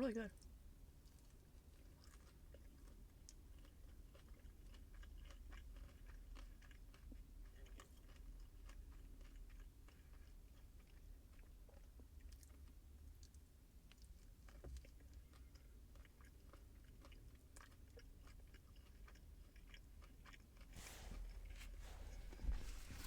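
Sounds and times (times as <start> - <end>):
chewing crispy food: 0.1 - 23.0.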